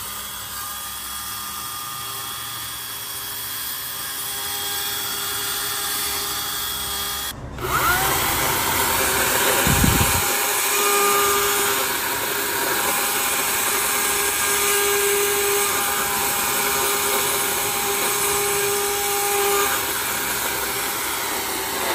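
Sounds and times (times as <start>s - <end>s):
chainsaw cutting wood: 0.0s - 21.9s.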